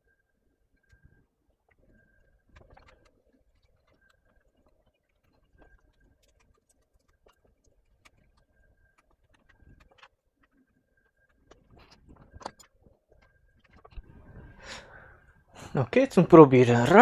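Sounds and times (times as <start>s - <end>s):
faint clicks and ticks: 0.1s - 15.1s.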